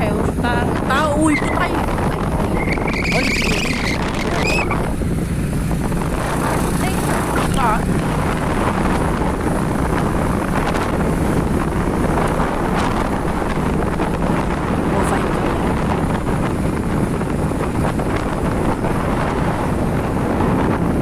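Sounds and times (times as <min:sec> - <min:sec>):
road noise: 0:00.0 - 0:21.0
vehicle engine running: 0:00.0 - 0:21.0
wind rushing over microphone: 0:00.0 - 0:21.0.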